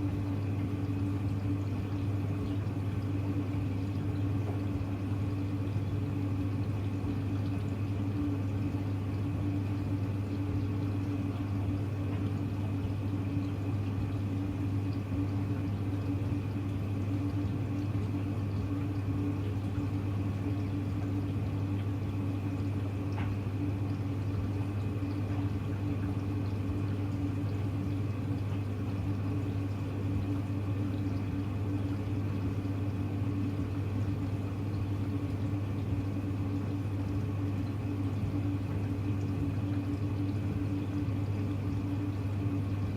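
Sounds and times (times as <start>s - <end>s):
moving water: 0.0s - 42.9s
washing machine humming: 0.0s - 42.9s.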